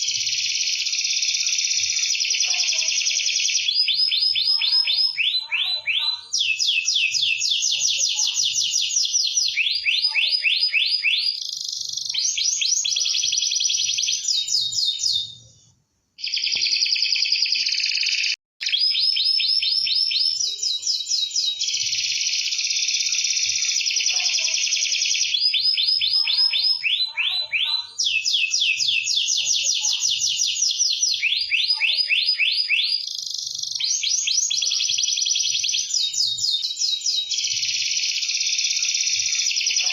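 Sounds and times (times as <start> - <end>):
canary singing trills: 0.0 - 15.5, 16.2 - 39.9.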